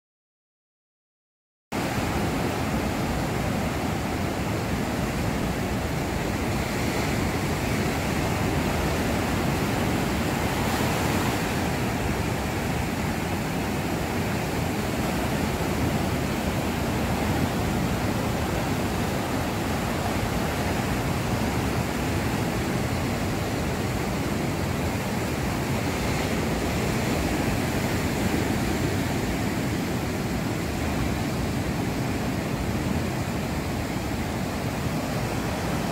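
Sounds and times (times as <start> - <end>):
ocean waves breaking on beach: 1.8 - 35.9.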